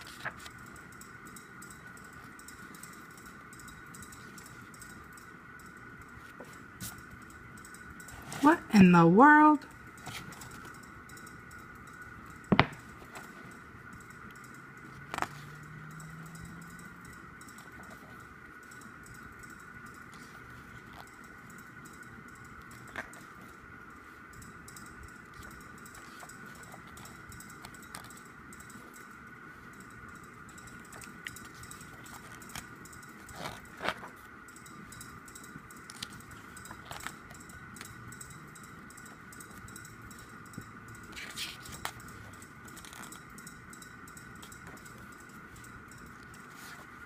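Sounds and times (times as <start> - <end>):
faint background whine: 0.0 - 47.0
faint steady hum: 0.0 - 47.0.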